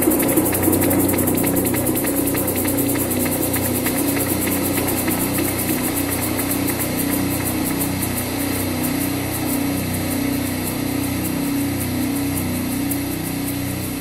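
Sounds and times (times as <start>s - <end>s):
low drone: 0.0s - 14.0s
maracas shaken: 0.0s - 14.0s.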